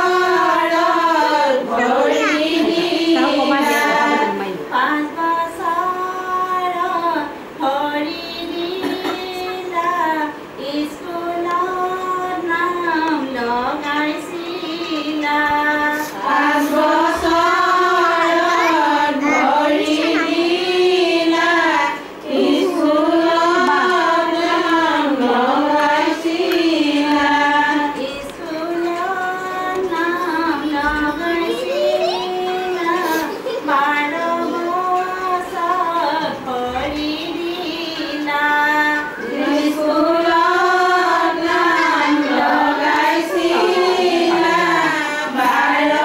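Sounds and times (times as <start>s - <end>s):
women singing unaccompanied: 0.0s - 46.0s.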